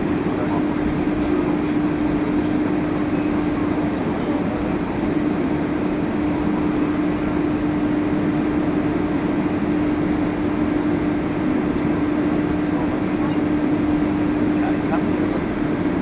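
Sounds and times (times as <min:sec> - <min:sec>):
constant hum: 0:00.0 - 0:16.0
jet engine cabin rumble: 0:00.0 - 0:16.0.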